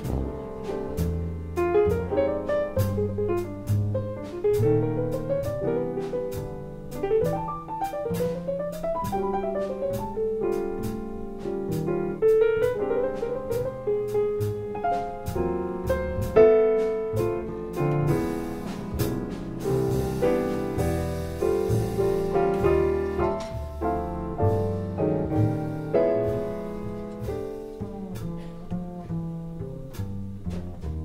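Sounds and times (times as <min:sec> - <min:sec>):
jazz piano solo: 0:00.0 - 0:31.0.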